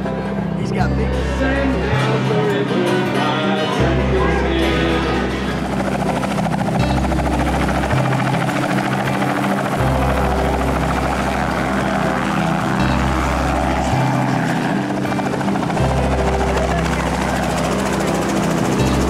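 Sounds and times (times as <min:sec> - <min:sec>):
helicopter rotor chop and engine: 0:00.0 - 0:19.0.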